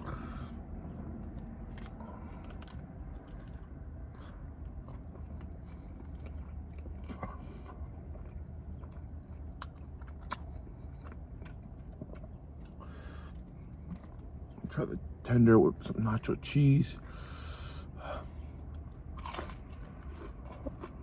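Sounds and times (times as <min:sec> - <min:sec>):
person chewing food: 0:00.0 - 0:15.1, 0:17.1 - 0:21.0
steady low hum: 0:00.0 - 0:21.0.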